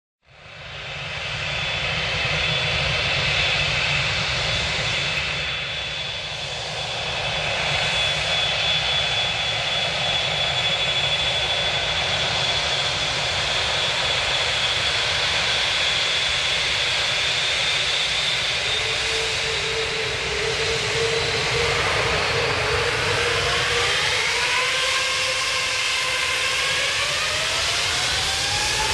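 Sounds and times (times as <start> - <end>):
jet engines roaring: 0.4 - 28.9.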